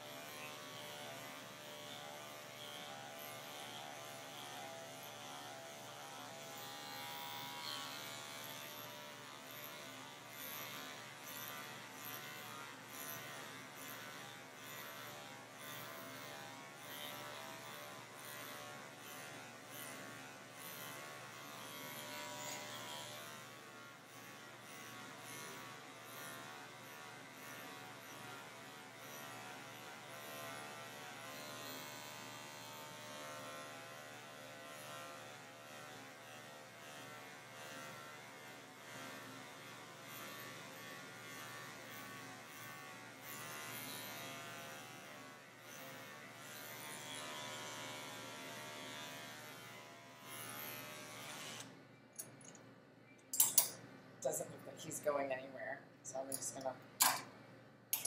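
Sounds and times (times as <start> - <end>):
electric clipper buzzing: 0.0 - 52.6, 53.3 - 54.4, 56.3 - 57.3.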